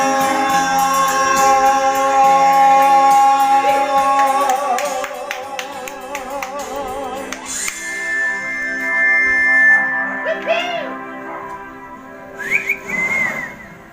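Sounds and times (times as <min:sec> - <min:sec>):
held sung note with vibrato: 0:00.0 - 0:13.9
karaoke music through speaker: 0:00.0 - 0:13.9.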